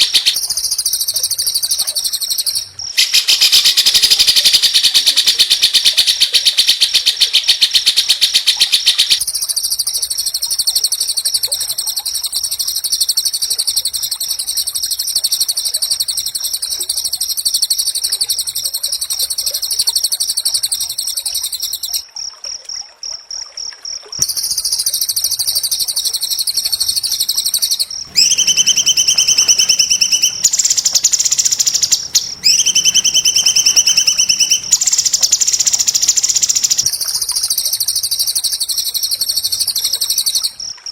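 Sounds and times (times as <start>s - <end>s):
songbird buzzy trills: 0.0s - 22.0s, 24.2s - 40.6s.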